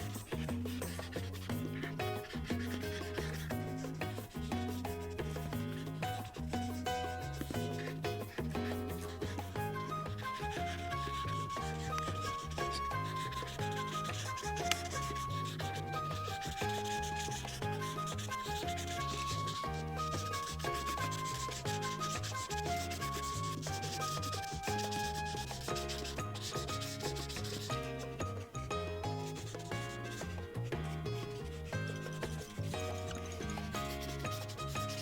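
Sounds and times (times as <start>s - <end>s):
light background music: 0.0s - 35.0s
marker rubbing on paper: 0.0s - 35.0s.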